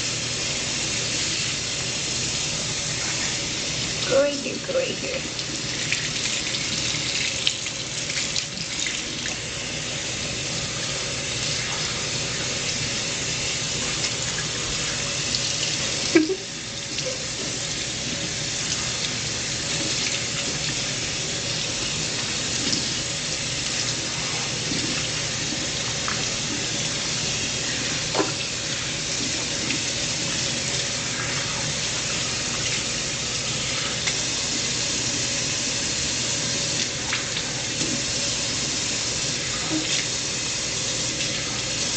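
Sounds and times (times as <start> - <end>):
bathtub tap running: 0.0 - 41.9.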